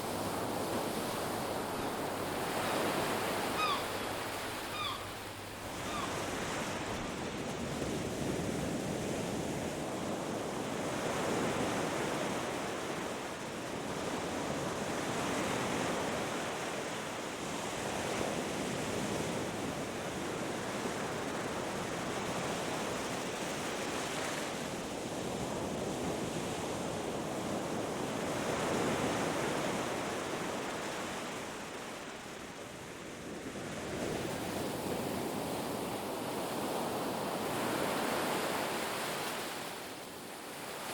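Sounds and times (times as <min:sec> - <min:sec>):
ocean surf washing on beach: 0:00.0 - 0:40.9.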